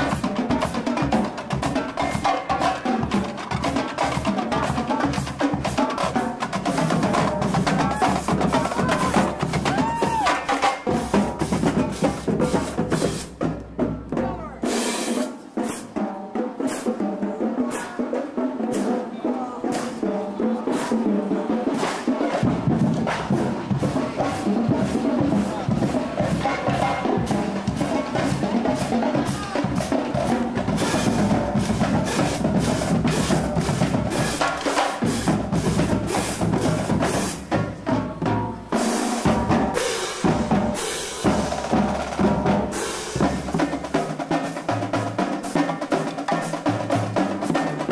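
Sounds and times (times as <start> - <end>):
bass drums: 0.0 - 14.7, 22.4 - 47.9
snare drums: 0.0 - 47.9.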